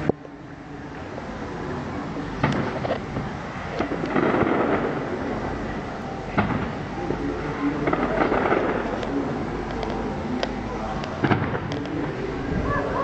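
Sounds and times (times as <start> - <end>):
fireworks bursting: 1.8 - 12.8.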